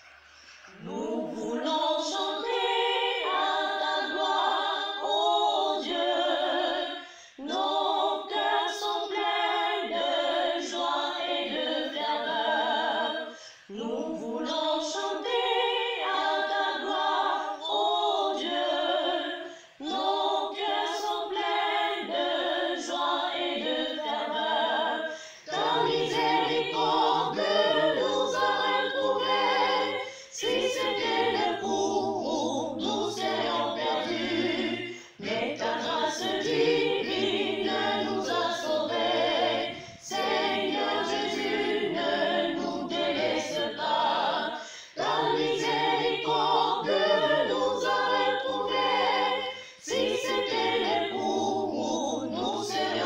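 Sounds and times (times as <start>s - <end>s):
choir singing unaccompanied: 0.0s - 53.0s.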